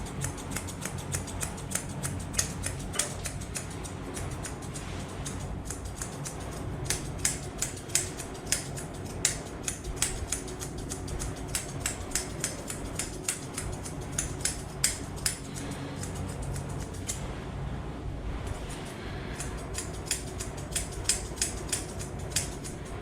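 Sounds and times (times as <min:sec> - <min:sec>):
scissors snipping fur: 0:00.0 - 0:17.2, 0:18.5 - 0:22.9
low steady hum: 0:00.0 - 0:23.0.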